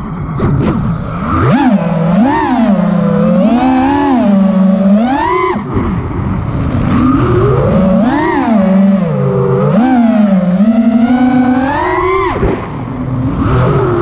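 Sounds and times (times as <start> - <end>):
quadcopter motors whining: 0.8 - 14.0.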